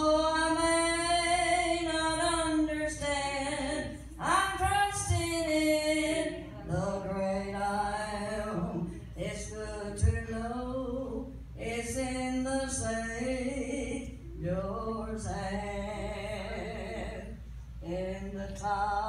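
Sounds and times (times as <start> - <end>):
woman singing gospel song: 0.0 - 19.0.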